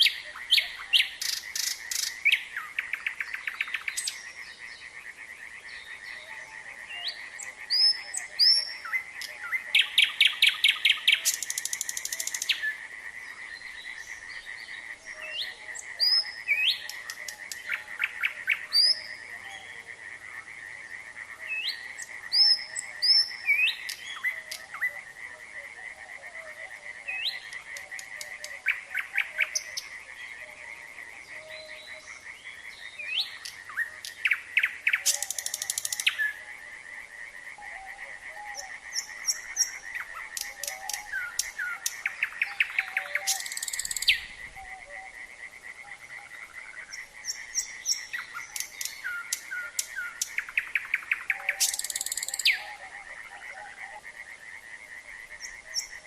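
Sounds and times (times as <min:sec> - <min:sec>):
nightingale singing: 0:00.0 - 0:36.5, 0:37.6 - 0:45.2, 0:45.8 - 0:54.1, 0:55.1 - 0:56.0
frogs trilling: 0:00.0 - 0:56.0.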